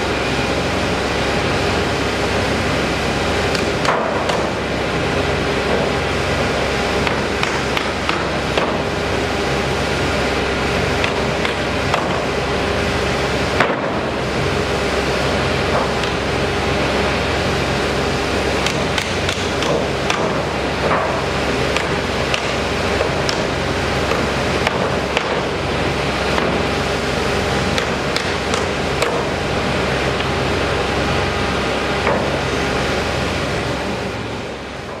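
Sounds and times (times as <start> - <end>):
machinery hum: 0.0 - 35.0.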